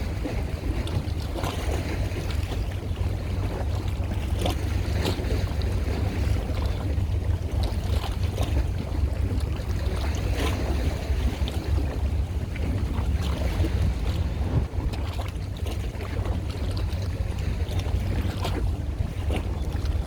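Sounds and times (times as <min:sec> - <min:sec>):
low rumble: 0:00.0 - 0:20.0
water with small splashes: 0:00.0 - 0:20.0
wind buffeting microphone: 0:00.0 - 0:20.0.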